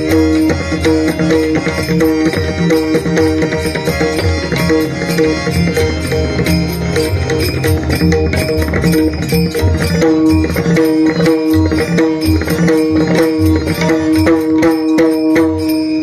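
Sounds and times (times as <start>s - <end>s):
held melody notes: 0.0s - 16.0s.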